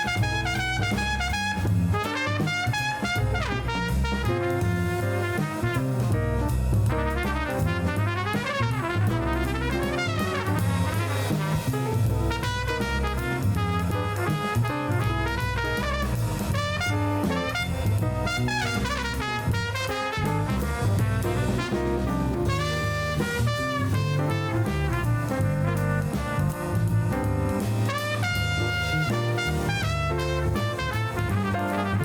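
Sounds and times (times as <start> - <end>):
upbeat jazz with brass and drums: 0.0 - 32.0.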